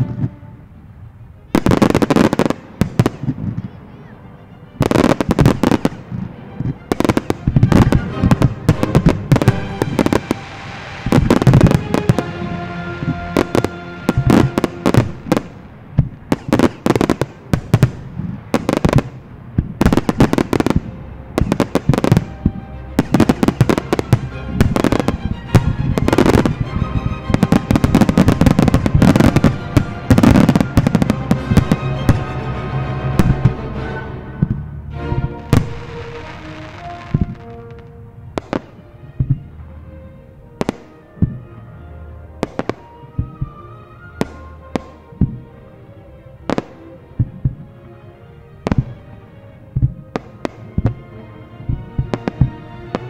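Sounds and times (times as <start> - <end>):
fireworks bursting: 0.0 - 4.2, 4.8 - 39.7, 40.5 - 41.5, 42.3 - 45.5, 46.4 - 47.7, 48.6 - 49.1, 49.8 - 53.0
music soundtrack: 0.0 - 53.0.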